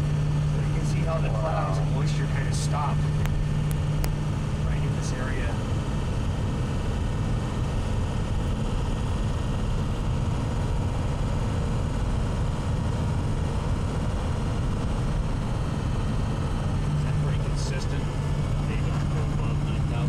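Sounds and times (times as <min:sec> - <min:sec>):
vehicle road and engine rumble: 0:00.0 - 0:20.0.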